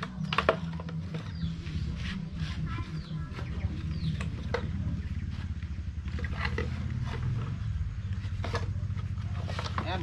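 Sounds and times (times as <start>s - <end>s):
small engine idling: 0.0s - 10.0s.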